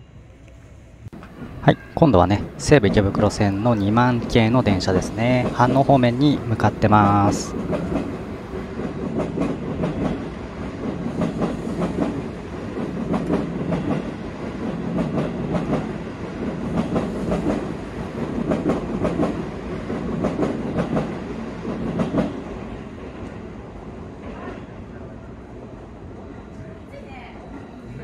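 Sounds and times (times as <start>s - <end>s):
electric train passing: 0.0s - 28.0s.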